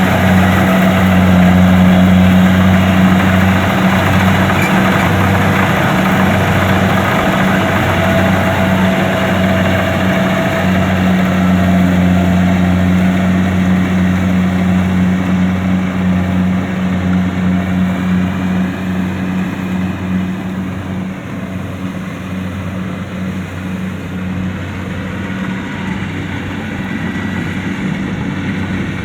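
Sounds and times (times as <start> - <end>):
combine harvester engine hum: 0.0 - 29.0
machinery noise: 0.0 - 29.0.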